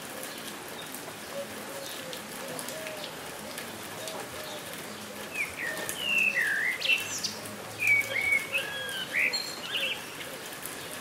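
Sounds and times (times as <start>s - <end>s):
steady rain falling: 0.0s - 11.0s
songbirds singing: 0.2s - 11.0s.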